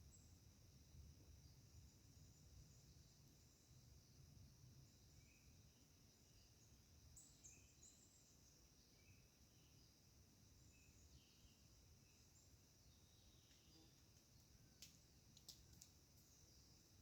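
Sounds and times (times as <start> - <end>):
faint distant birds chirping: 0.0 - 17.0.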